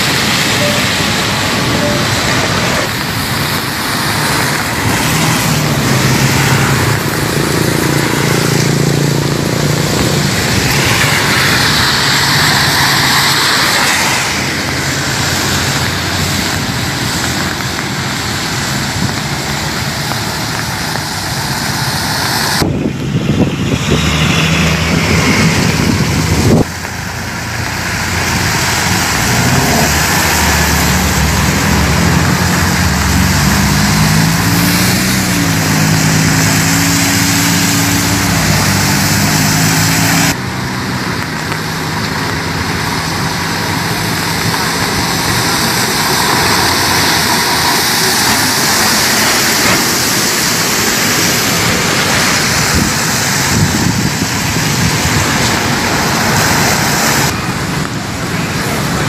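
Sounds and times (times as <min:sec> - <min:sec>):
tyres hissing on wet road: 0:00.0 - 0:59.0
vehicle engine humming: 0:00.0 - 0:59.0
wind and rain: 0:00.0 - 0:59.0.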